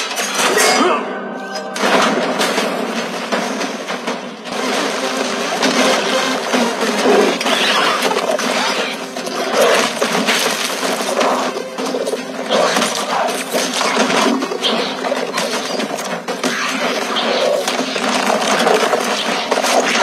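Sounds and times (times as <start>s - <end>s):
building collapsing: 0.0s - 20.0s
crumbling concrete and debris: 1.8s - 20.0s.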